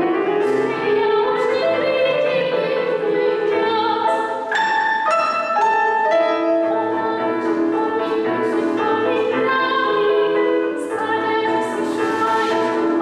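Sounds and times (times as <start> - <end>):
digital piano accompaniment: 0.0 - 13.0
woman singing: 0.2 - 4.5, 6.5 - 13.0.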